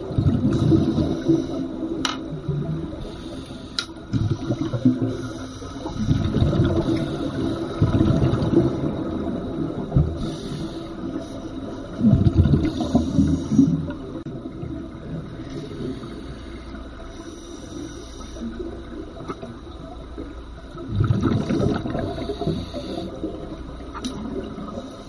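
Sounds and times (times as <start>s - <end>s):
regulator bubbles gurgling underwater: 0.0s - 25.0s.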